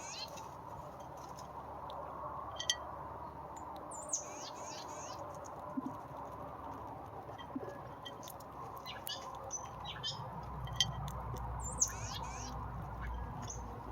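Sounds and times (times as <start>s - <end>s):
small birds chirping: 0.0s - 0.6s, 2.6s - 6.7s, 7.3s - 13.9s.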